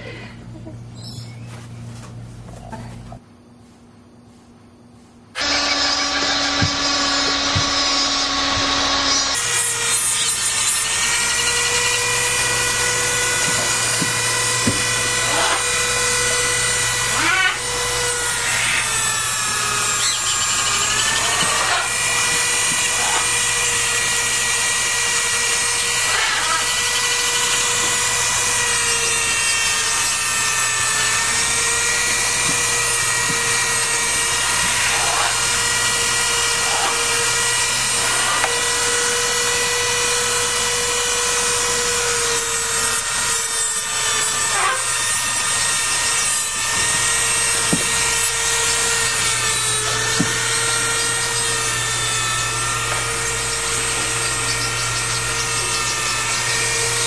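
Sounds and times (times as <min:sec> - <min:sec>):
nail grinder whining: 0:05.4 - 0:57.0.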